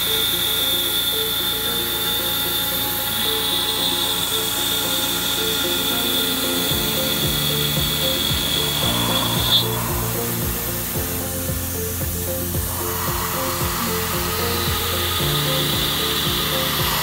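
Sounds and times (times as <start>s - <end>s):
background music: 0.0s - 17.0s
milling machine high whine: 0.0s - 17.0s.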